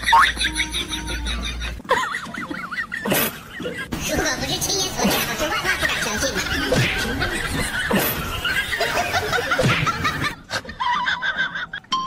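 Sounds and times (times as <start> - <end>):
people giggling: 0.0 - 11.9.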